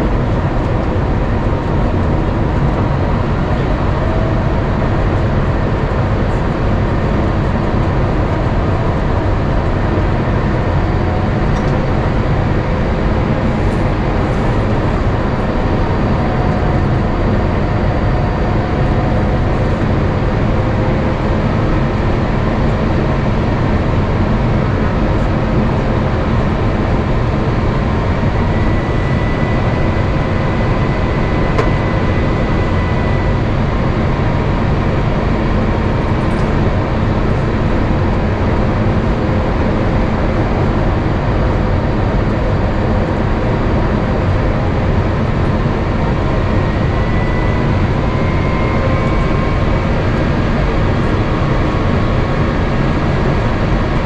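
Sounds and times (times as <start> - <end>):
airplane cabin noise: 0.0 - 54.0.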